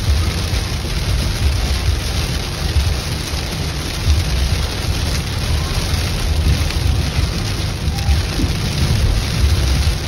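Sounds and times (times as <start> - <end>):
heavy rain on car windshield: 0.0 - 10.0
road noise rumble: 0.0 - 10.0.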